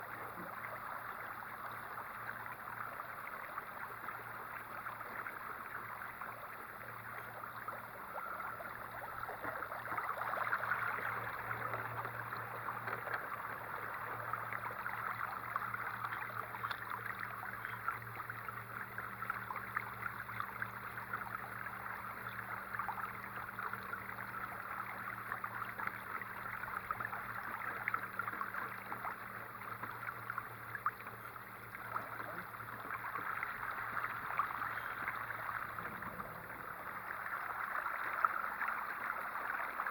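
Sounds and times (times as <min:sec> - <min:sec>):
water splashing along hull: 0:00.0 - 0:39.9.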